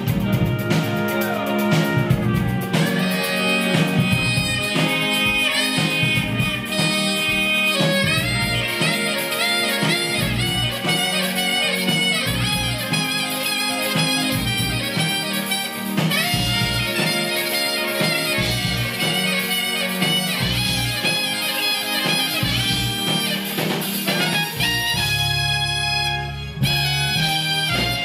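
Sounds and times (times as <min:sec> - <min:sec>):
drums: 0:00.0 - 0:28.0
saxophone: 0:00.0 - 0:28.0
trumpet: 0:00.0 - 0:28.0.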